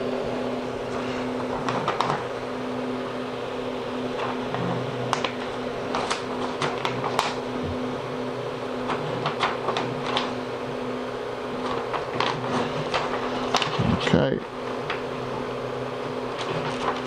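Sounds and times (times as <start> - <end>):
three d printer humming: 0.0 - 17.0.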